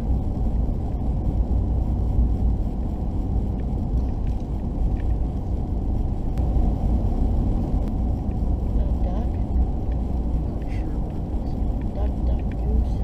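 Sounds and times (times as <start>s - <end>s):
vehicle driving on gravel: 0.0s - 13.0s.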